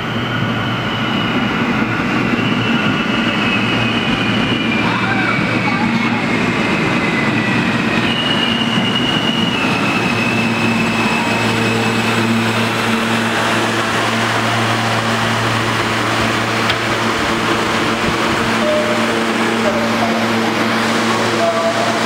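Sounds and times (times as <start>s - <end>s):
subway train braking: 0.0s - 22.0s.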